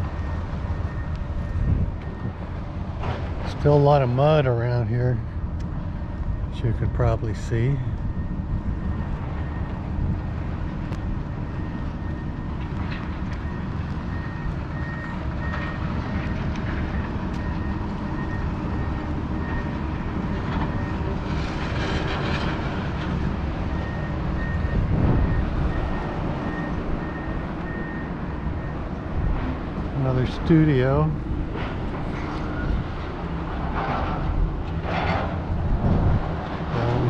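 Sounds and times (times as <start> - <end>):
heavy machine rumble: 0.0 - 37.0.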